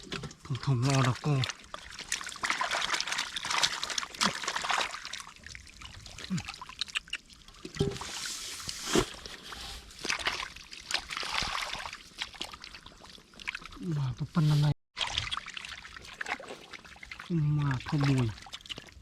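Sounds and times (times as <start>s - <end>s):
shallow water trickling: 0.0s - 19.0s.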